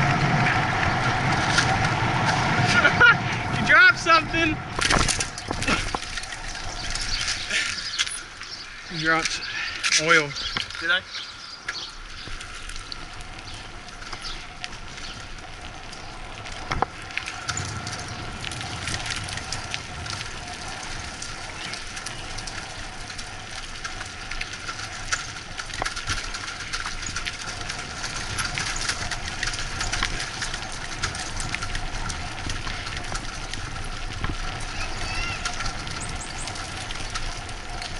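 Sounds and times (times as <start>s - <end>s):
bicycle rattling and clicking: 0.0s - 37.9s
bicycle tyres rumbling on bricks: 0.0s - 37.9s.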